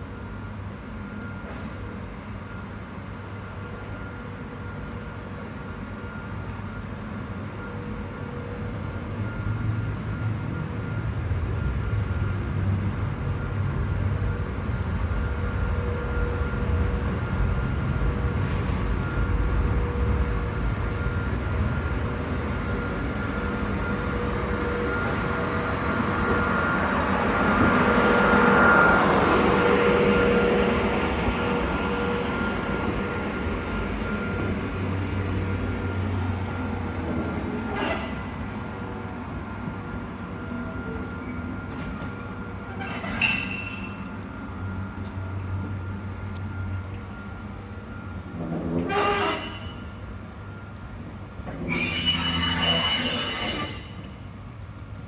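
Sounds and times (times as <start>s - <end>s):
rail car rumbling: 0.0s - 55.0s.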